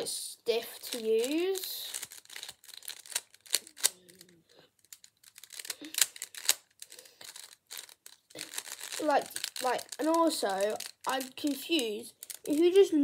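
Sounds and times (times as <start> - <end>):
puzzle cube clicking and scraping: 0.6 - 12.9.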